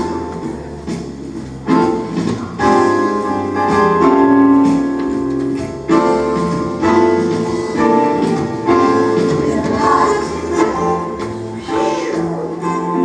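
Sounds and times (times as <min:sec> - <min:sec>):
bass line: 0:00.0 - 0:13.0
keyboard chords: 0:00.0 - 0:13.0.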